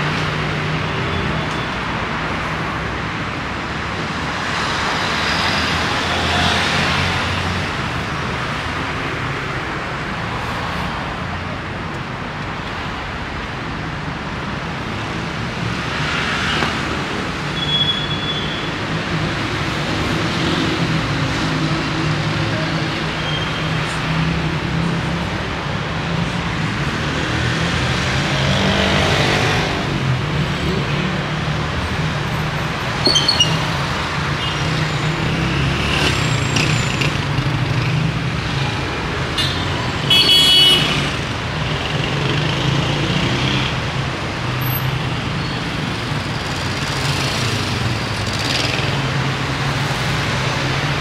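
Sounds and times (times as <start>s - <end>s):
city street traffic: 0.0s - 51.0s.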